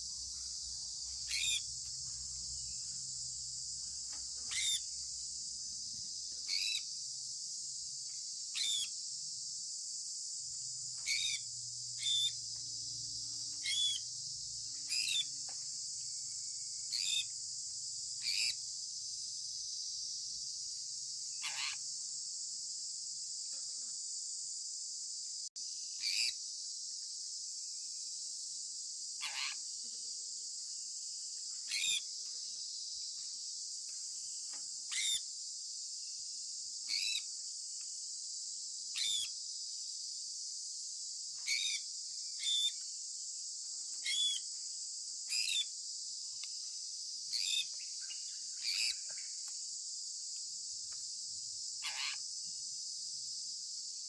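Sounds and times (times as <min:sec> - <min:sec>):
downward sweeping insect call: 0:00.0 - 0:24.3, 0:25.6 - 0:54.0
high-pitched insect chorus: 0:00.0 - 0:54.0.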